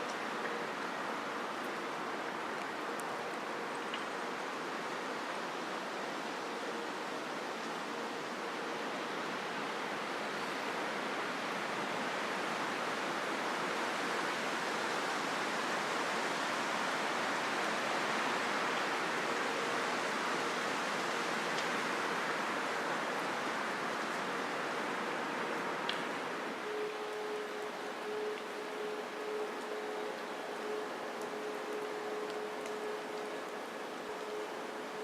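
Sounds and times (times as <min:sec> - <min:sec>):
wind through vegetation: 0:00.0 - 0:35.0.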